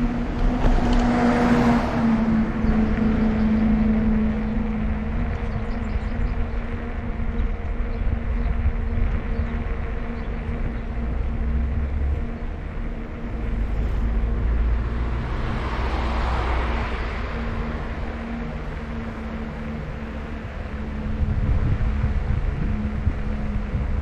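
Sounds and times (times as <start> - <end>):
vehicle passing: 0.0 - 24.0
wind and road noise: 0.0 - 24.0.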